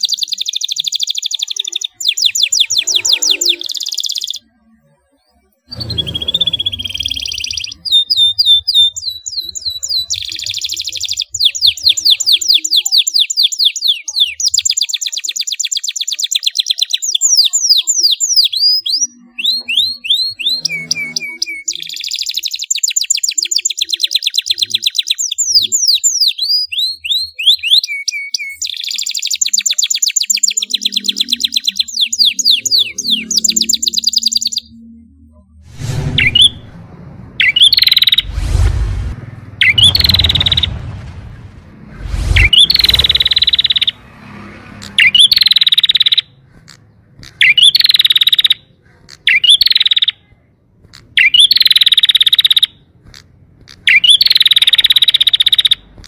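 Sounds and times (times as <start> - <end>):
canary singing trills: 0.0 - 35.4, 37.4 - 38.3, 39.6 - 40.8, 42.3 - 56.0.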